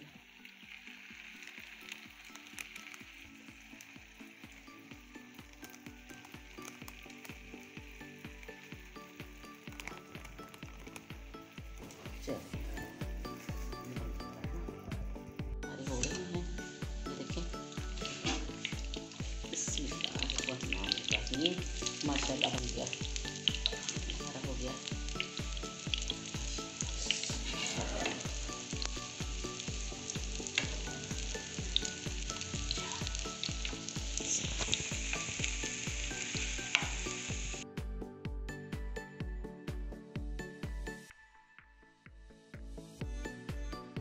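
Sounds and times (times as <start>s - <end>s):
food sizzling in hot oil: 0.0s - 14.4s, 15.7s - 37.6s.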